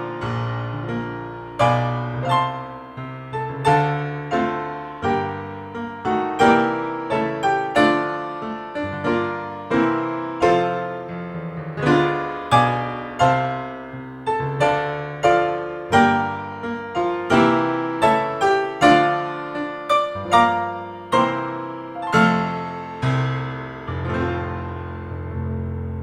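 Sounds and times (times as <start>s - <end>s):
solo piano playing lively tune: 0.0s - 26.0s.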